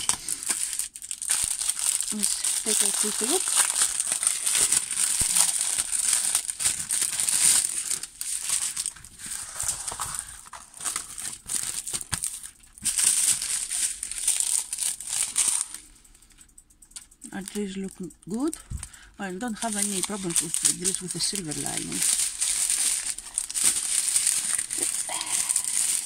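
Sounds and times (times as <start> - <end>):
plastic film crinkling: 0.0 - 16.1, 17.0 - 26.0.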